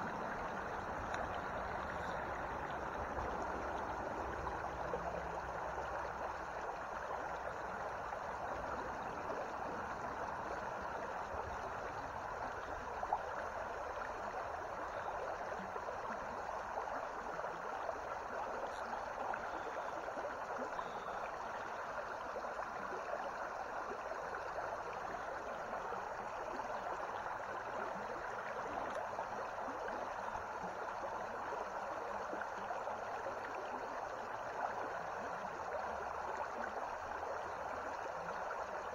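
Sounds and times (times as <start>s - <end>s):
creek water running over riffle: 0.0s - 38.9s.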